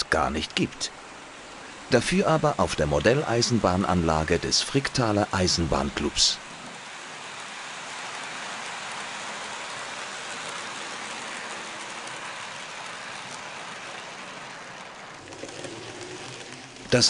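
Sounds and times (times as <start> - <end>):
model train wheels hissing on rail: 0.0 - 17.0.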